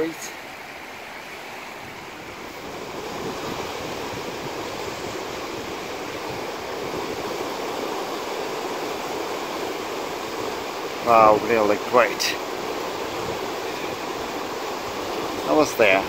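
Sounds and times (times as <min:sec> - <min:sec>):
flooded river rushing: 0:00.0 - 0:16.0.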